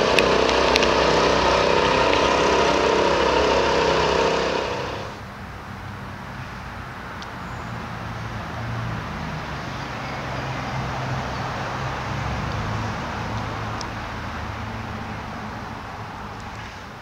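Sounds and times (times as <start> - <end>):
city traffic with engine rumble: 0.0 - 17.0.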